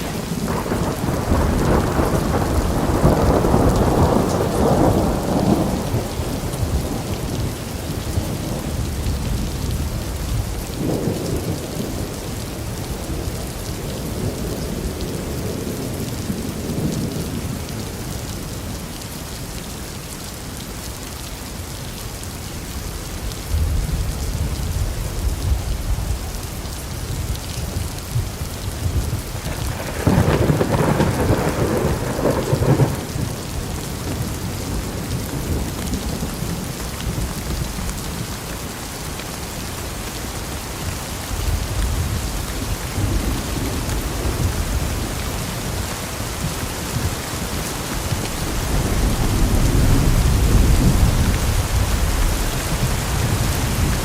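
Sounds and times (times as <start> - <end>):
rolling thunder: 0.0 - 17.8, 23.5 - 38.3, 41.3 - 54.0
heavy rain: 0.0 - 54.0.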